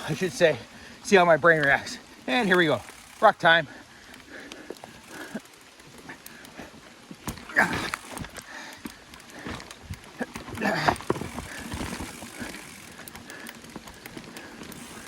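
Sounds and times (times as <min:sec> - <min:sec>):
mountain bike rattling over rock: 0:00.0 - 0:15.0.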